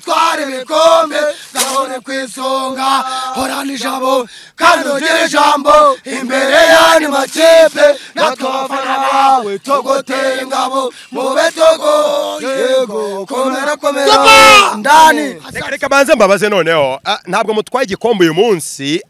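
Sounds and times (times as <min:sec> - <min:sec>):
man chanting: 0:00.0 - 0:15.7.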